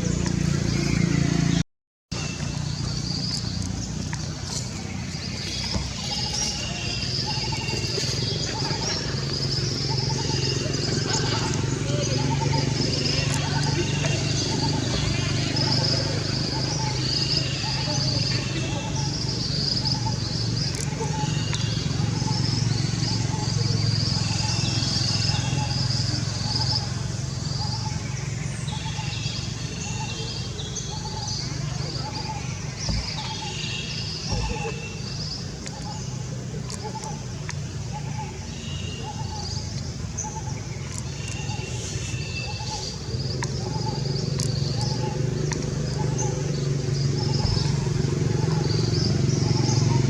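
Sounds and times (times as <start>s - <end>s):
birds chirping: 0.0s - 50.0s
low engine hum: 0.0s - 50.0s.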